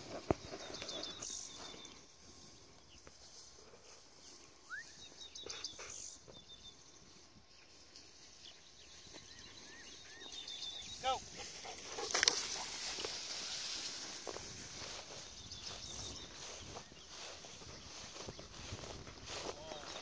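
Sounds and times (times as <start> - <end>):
footsteps through tall grass: 0.0 - 20.0.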